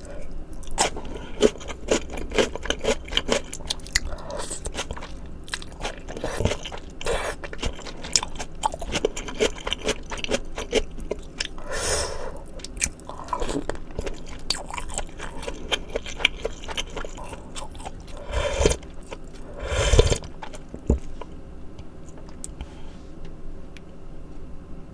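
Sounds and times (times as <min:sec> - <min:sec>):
chewing and crunching food: 0:00.0 - 0:11.7, 0:12.4 - 0:22.7.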